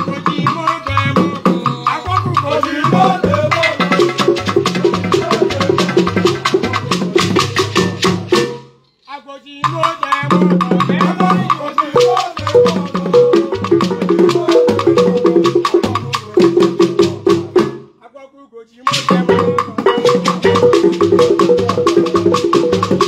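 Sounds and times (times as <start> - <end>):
hand drums and percussion: 0.0 - 8.8, 9.5 - 17.9, 18.8 - 23.0.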